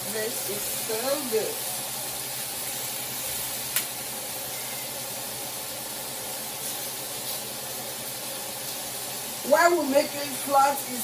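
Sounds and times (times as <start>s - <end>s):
chicken sizzling in pan: 0.0s - 11.0s.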